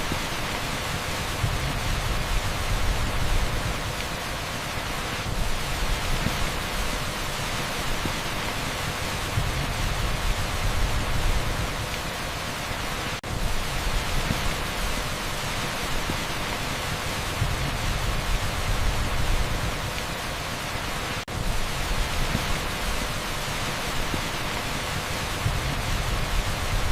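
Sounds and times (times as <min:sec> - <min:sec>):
torrential rain on asphalt: 0:00.0 - 0:26.9.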